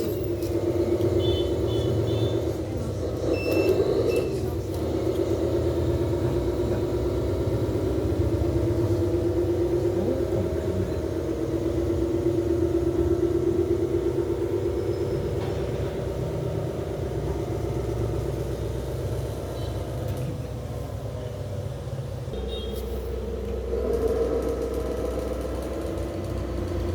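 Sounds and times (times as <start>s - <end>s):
low engine-like rumble: 0.0s - 26.9s.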